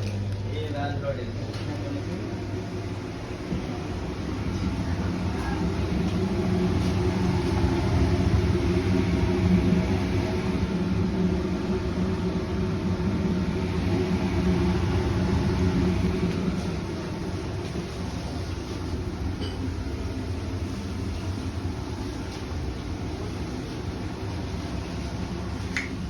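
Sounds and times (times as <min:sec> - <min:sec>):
machine rumble and hum: 0:00.0 - 0:26.0.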